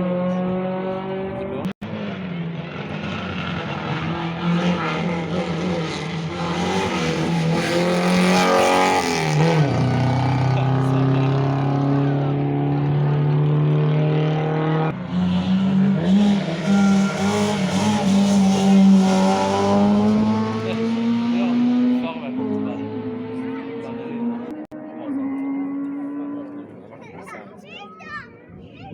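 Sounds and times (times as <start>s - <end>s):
rally car engine running: 0.0s - 27.3s.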